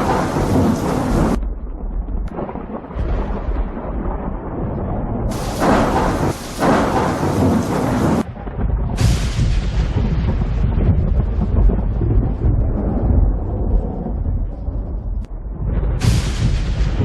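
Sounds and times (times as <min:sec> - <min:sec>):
crackling thunderclap: 0:00.0 - 0:17.0
low rumble of thunder: 0:00.0 - 0:17.0
rain: 0:00.0 - 0:17.0.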